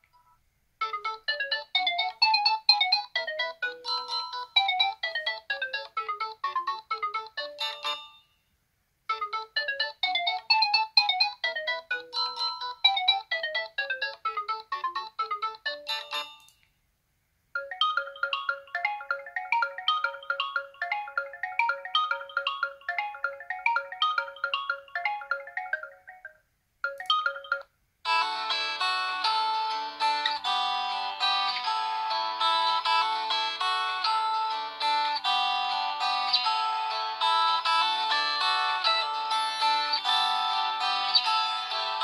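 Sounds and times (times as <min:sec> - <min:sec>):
phone ringtone melodies: 0:00.2 - 0:08.5, 0:09.1 - 0:16.6, 0:17.5 - 0:42.0.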